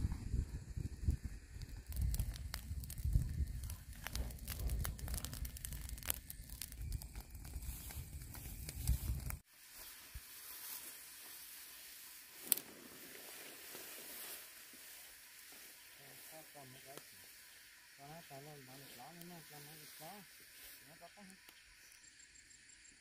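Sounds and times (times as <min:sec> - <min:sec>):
brush fire crackling and popping: 0:00.0 - 0:22.2
steady hiss: 0:00.0 - 0:23.0.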